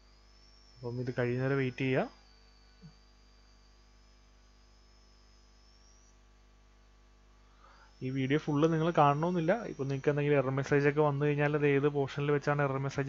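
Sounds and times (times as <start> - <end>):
faint electrical hum: 0.0 - 13.0
faint high whine: 0.0 - 13.0.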